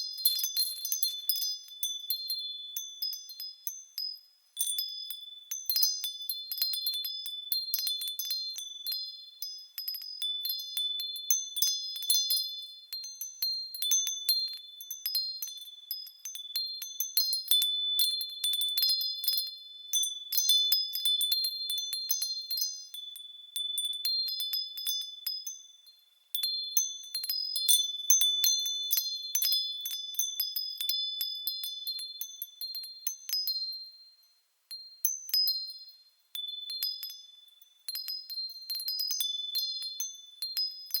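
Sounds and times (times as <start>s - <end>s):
wind chime tinkling: 0.0s - 41.0s.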